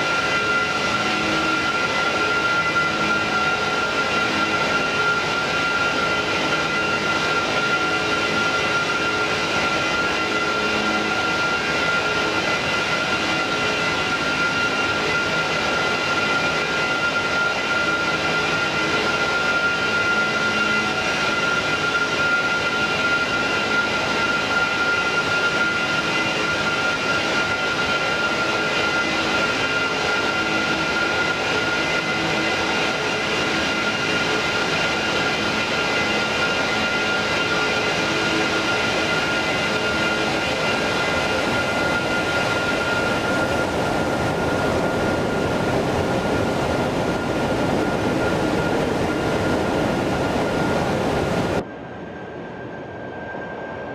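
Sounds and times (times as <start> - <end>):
jet engines roaring with whine: 0.0 - 53.9.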